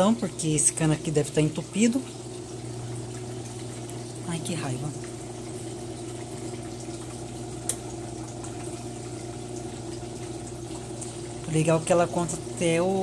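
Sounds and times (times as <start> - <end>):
drain pump hum: 0.0 - 13.0
water draining: 0.0 - 13.0.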